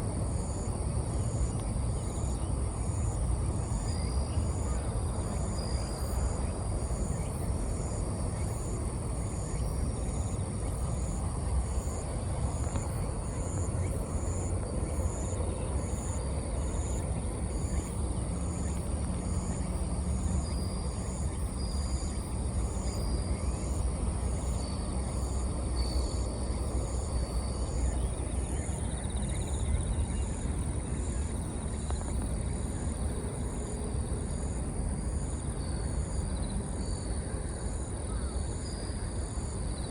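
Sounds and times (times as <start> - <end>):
bell crickets chirping: 0.2 - 39.9.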